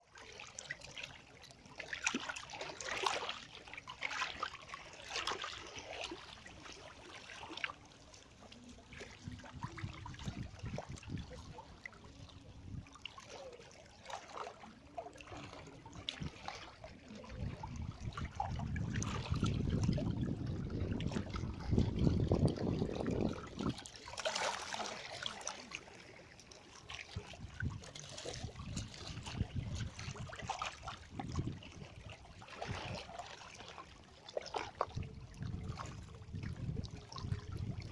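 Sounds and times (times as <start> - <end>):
seawater washing and trickling: 0.0 - 37.9.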